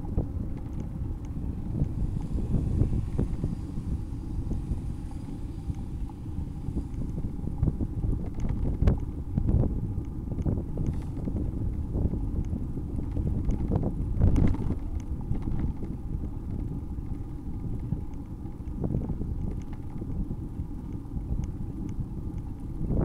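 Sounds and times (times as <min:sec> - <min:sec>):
bicycle knocks and rattles: 0:00.0 - 0:23.0
wind buffeting microphone: 0:00.0 - 0:23.0.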